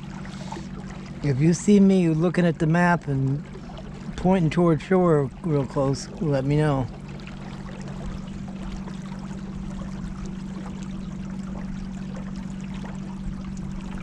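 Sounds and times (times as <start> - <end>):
steady low hum: 0.0 - 14.0
water trickling and lapping: 0.0 - 14.0.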